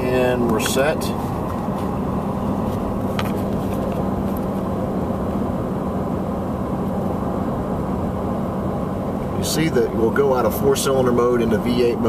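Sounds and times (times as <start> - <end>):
in-cab engine and road noise: 0.0 - 12.0
steady low hum: 0.0 - 12.0.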